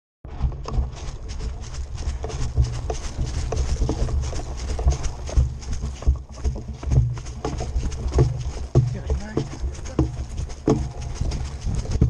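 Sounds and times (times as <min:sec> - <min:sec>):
low wind rumble: 0:00.2 - 0:12.0
running footsteps on grass: 0:00.2 - 0:12.0
equipment rattling and knocking: 0:00.3 - 0:12.0
microphone handling noise: 0:00.3 - 0:12.0.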